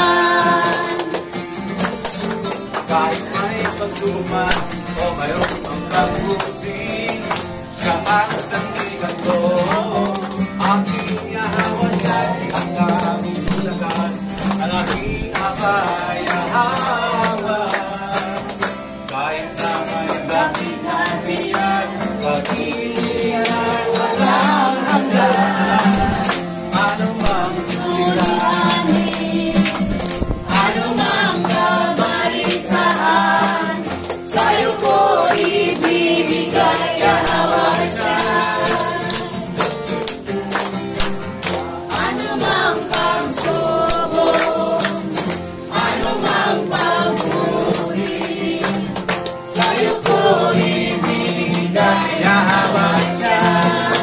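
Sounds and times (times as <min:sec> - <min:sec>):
acoustic guitar: 0:00.0 - 0:54.0
congregation singing in unison: 0:00.0 - 0:54.0
hands clapping in time: 0:00.0 - 0:54.0.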